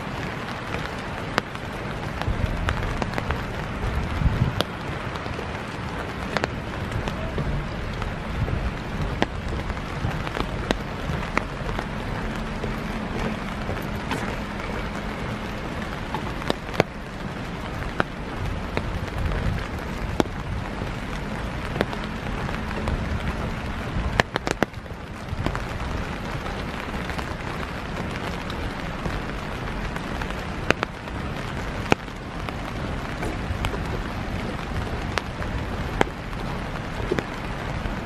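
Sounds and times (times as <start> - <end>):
low uneven rumble: 0.0 - 38.0
sharp drip-like ticks: 0.0 - 38.0
steady rain falling: 0.0 - 38.0.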